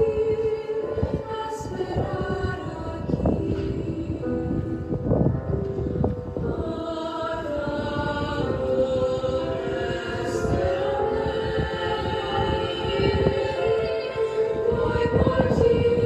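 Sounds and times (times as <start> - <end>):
slow choral singing: 0.0 - 16.0.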